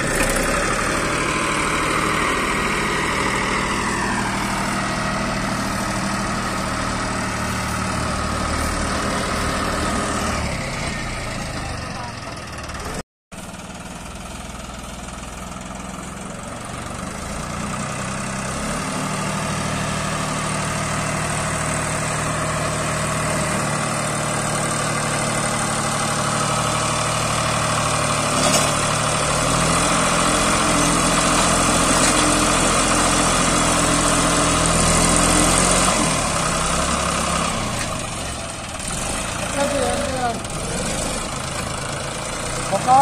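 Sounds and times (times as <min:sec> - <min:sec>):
combine harvester diesel engine: 0:00.0 - 0:43.0.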